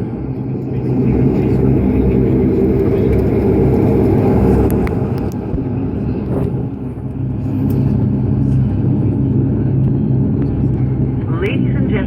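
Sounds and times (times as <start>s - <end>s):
propeller engine cabin drone: 0.0s - 12.0s.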